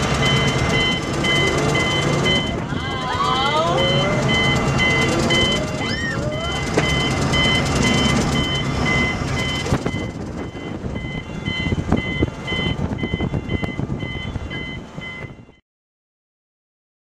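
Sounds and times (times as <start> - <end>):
two-tone warning beeps: 0.1 - 15.6.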